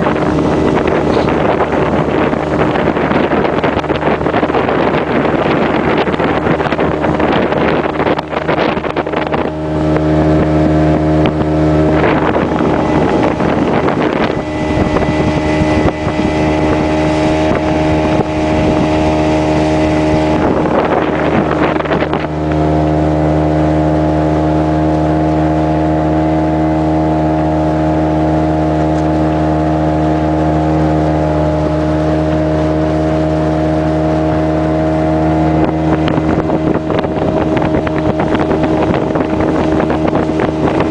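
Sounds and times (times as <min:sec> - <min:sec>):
outboard motor running: 0:00.0 - 0:40.9
wind and water rushing: 0:00.0 - 0:40.9.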